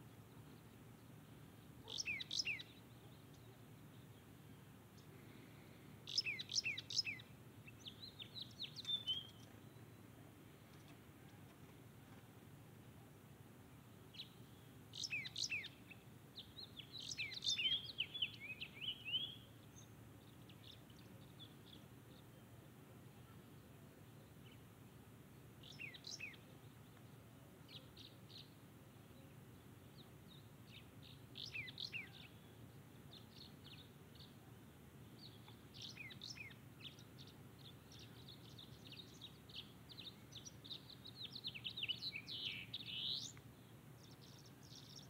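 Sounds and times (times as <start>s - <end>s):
faint low background noise: 0.0s - 45.0s
birds chirping: 0.1s - 12.2s, 13.8s - 22.5s, 25.6s - 45.0s.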